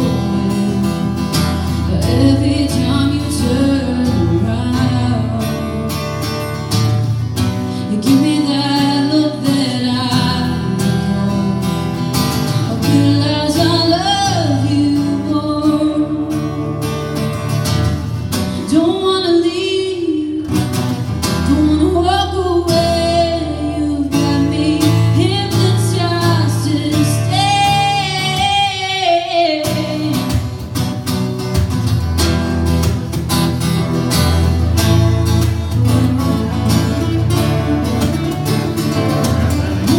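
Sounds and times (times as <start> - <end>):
woman singing: 0.0 - 6.6, 7.7 - 16.9, 18.6 - 30.6, 35.6 - 39.9
strummed acoustic guitar: 0.0 - 39.9.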